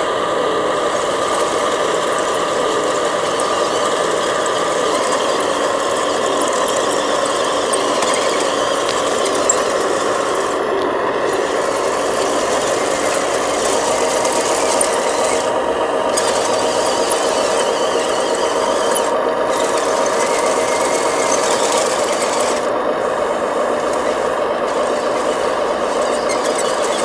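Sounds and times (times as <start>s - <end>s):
small electric motor whining: 0.0s - 27.0s.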